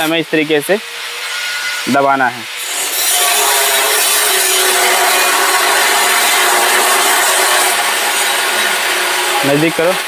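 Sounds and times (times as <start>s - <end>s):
loud rasping hiss: 0.0s - 10.0s.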